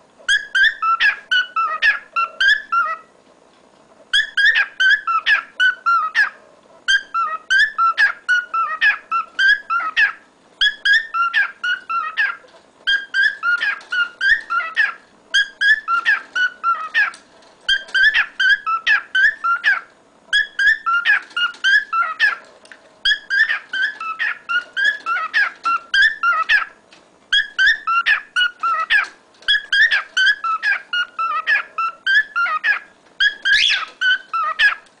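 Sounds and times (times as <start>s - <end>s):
cockatiel whistling: 0.3s - 3.1s, 4.1s - 22.4s, 23.0s - 34.8s.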